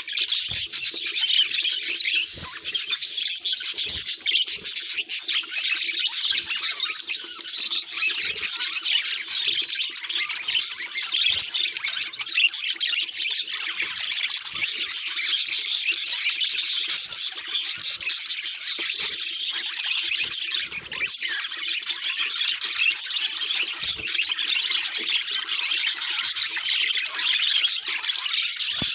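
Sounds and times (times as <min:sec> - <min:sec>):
budgerigars chattering: 0:00.0 - 0:28.9.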